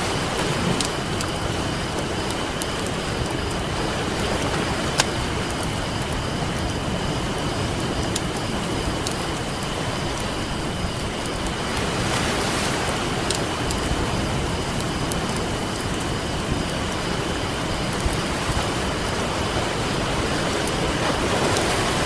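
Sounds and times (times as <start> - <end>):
campfire popping and crackling: 0.0 - 22.0
ocean surf washing on beach: 0.0 - 22.0.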